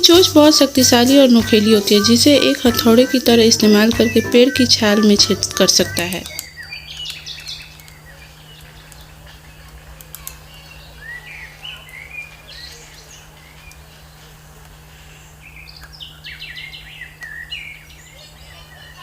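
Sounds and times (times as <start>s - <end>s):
songbirds chirping: 0.0s - 19.0s
steady low hum: 0.0s - 19.0s.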